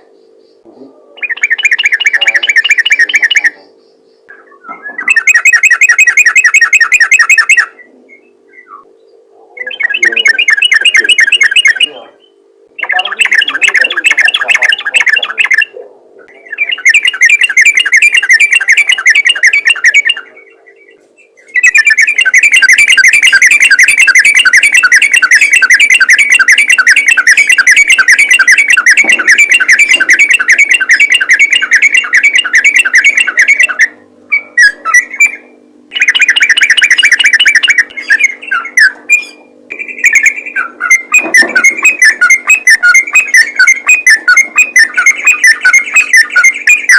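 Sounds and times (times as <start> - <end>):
bulbul chattering call: 0.0 - 46.9
faint steady hum: 0.0 - 46.9.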